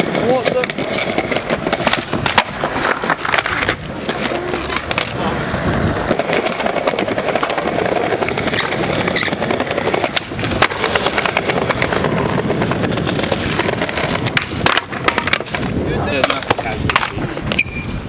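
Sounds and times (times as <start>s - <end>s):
skateboard deck clacking on ground: 0.0s - 5.2s, 6.0s - 17.7s
skateboard wheels rolling on concrete: 0.0s - 18.0s.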